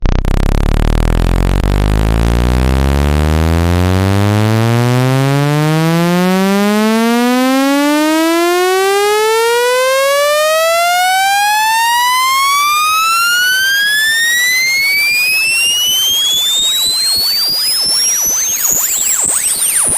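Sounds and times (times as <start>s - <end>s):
buzzy electronic tone sweeping upward: 0.0s - 19.9s.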